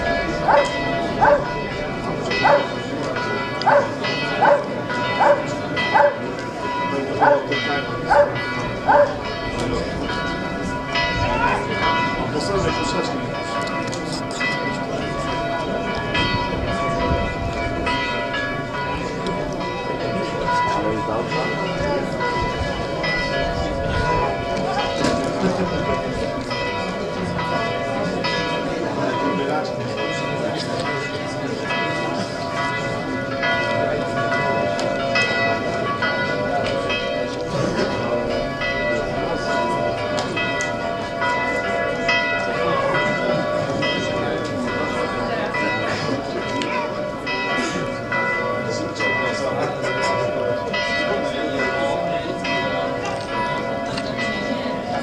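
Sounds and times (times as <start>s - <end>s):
bells ringing in a peal: 0.0s - 55.0s.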